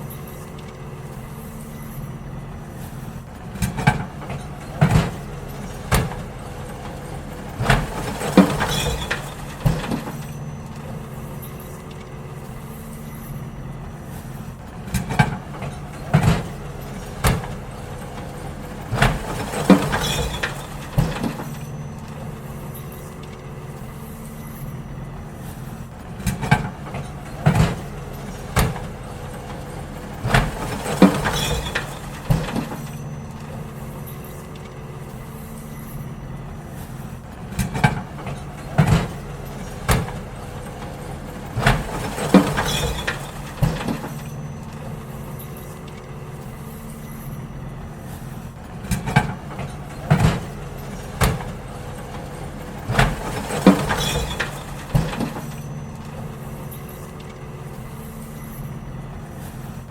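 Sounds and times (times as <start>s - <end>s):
bins banging and clanking: 0.0s - 59.9s
garbage truck engine running: 0.0s - 59.9s.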